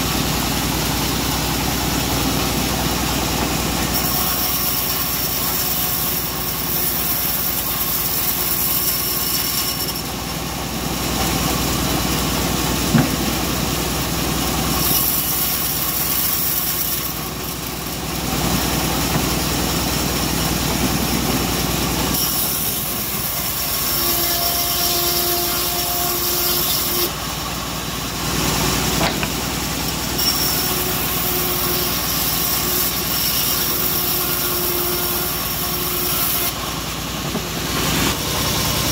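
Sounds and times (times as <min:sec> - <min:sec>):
band saw running: 0:00.0 - 0:38.9
hiss of saw cutting wood: 0:00.0 - 0:38.9.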